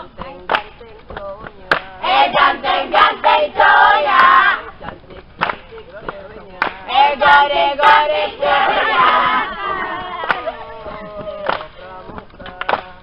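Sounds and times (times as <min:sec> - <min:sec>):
hand claps: 0:00.0 - 0:03.4, 0:04.1 - 0:13.0
young voices singing and chanting: 0:00.0 - 0:13.0.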